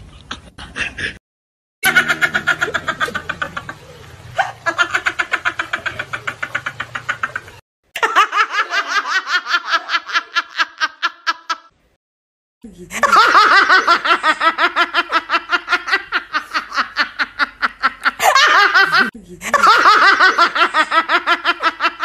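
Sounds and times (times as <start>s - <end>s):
high-pitched giggling laugh: 1.8s - 11.7s, 12.8s - 22.0s
rapid laugh: 1.8s - 11.7s, 12.8s - 22.0s.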